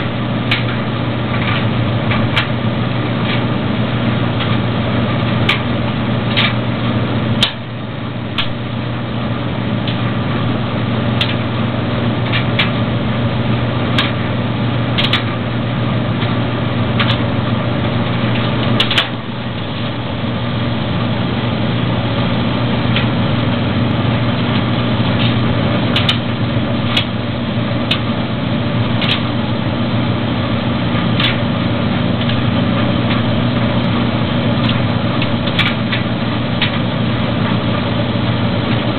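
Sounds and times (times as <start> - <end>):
dryer motor and drum hum: 0.0 - 38.9
sharp clicks inside dryer: 0.0 - 38.9.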